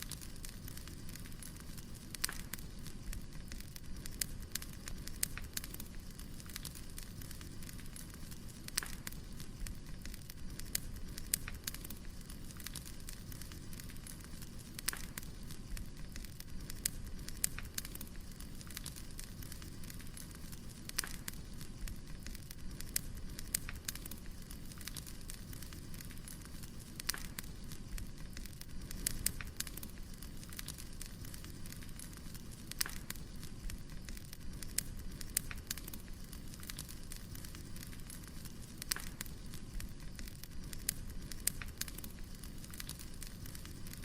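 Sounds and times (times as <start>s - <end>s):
fire rushing: 0.0s - 44.0s
logs crackling and popping: 0.0s - 44.0s.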